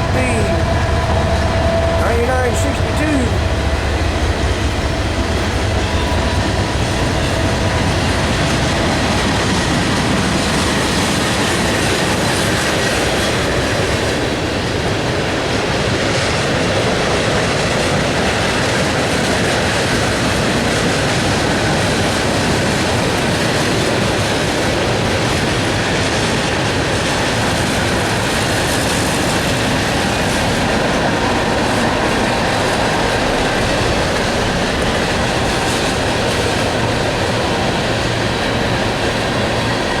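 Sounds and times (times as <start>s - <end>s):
freight train wheels on rails: 0.0s - 40.0s.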